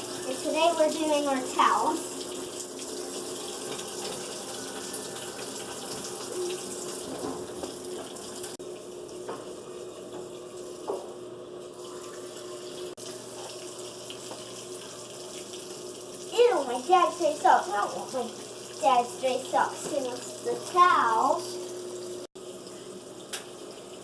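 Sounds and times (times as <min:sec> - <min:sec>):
running water filling tub: 0:00.0 - 0:24.0.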